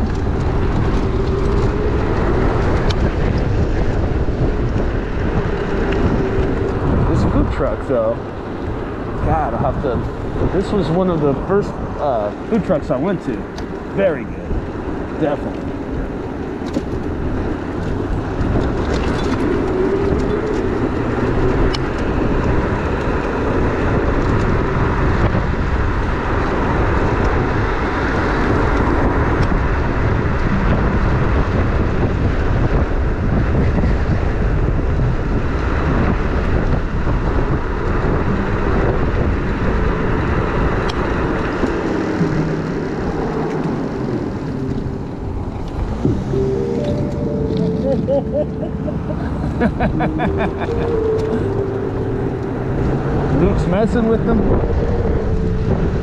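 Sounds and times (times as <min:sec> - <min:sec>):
tyres rumbling on path: 0:00.0 - 0:56.0
wind rushing over microphone: 0:00.0 - 0:56.0.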